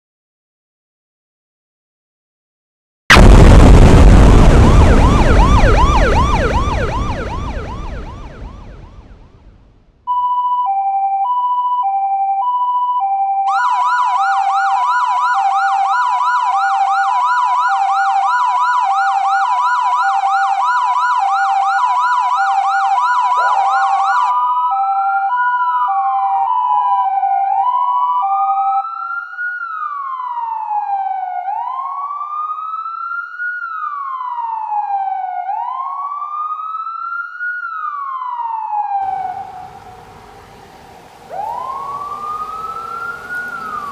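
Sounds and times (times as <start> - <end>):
fast yelp siren: 3.1 - 9.2, 10.3 - 43.9
slow wailing siren: 3.1 - 9.4, 10.1 - 43.9
two-tone hi-lo siren: 3.1 - 9.4, 10.1 - 43.9.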